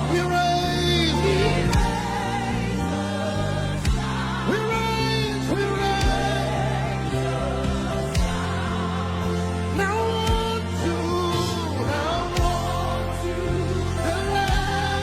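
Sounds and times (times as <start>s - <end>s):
keyboard and bass: 0.0s - 15.0s
voices singing gospel: 0.0s - 15.0s.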